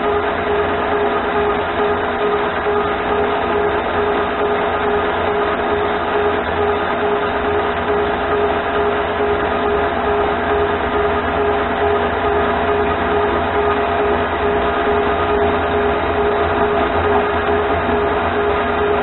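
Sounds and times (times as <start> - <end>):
lathe motor whine: 0.0 - 19.0.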